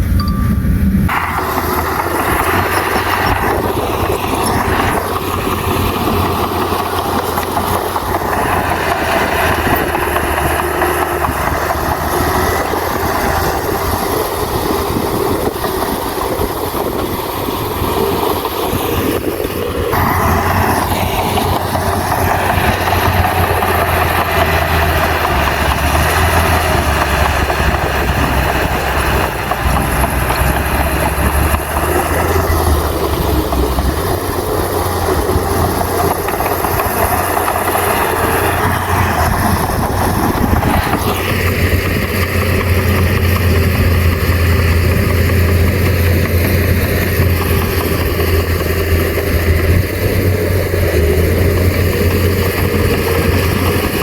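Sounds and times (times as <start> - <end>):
bulldozer engine under load: 0.0 - 54.0.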